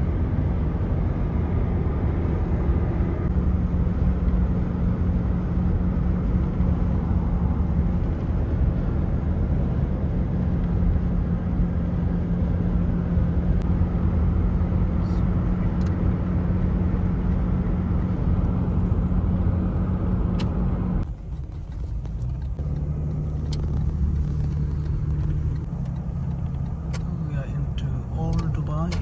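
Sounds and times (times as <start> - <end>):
road and engine noise in car: 0.0 - 29.0.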